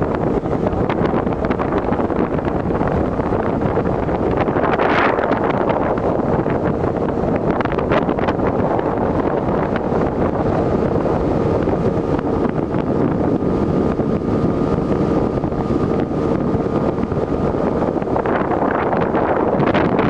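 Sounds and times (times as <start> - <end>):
boat motor droning: 0.0 - 20.0
wind buffeting microphone: 0.0 - 20.0.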